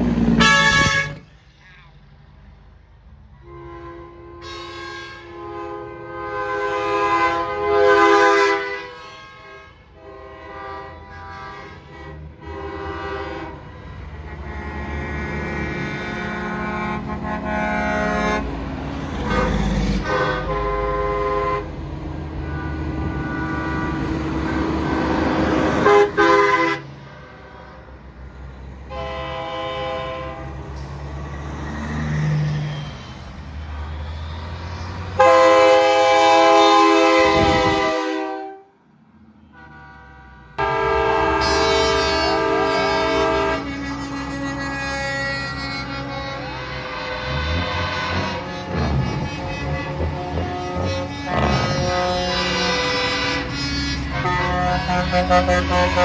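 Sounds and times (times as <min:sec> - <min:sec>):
truck air horns blasting: 0:00.0 - 0:01.6, 0:03.3 - 0:56.0
diesel truck engines rumbling: 0:00.0 - 0:56.0.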